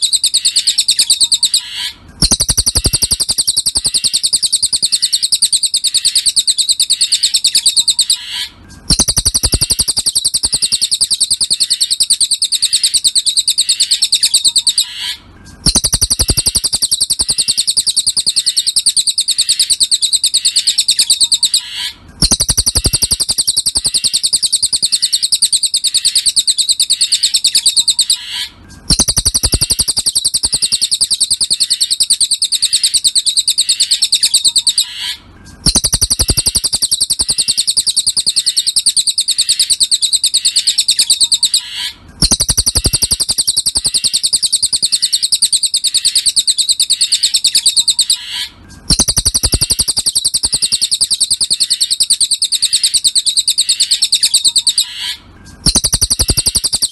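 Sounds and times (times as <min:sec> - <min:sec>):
bird chattering trill: 0:00.0 - 0:56.9.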